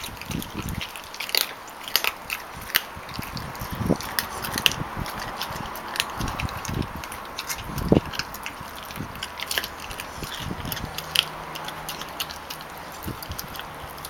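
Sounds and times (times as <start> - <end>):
puppy chewing bone: 0.0 - 14.0.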